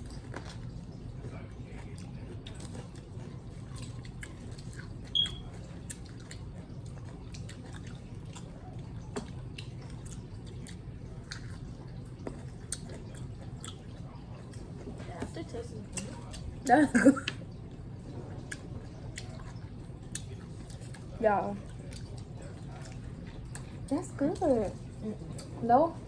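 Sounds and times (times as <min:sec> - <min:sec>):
wet crunchy chewing: 0:00.0 - 0:16.6, 0:18.4 - 0:25.6
steady low hum: 0:00.0 - 0:26.0.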